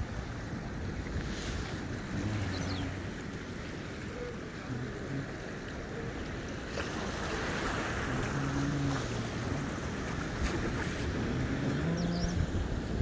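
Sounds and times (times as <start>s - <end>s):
sea waves breaking on rocks: 0.0s - 13.0s.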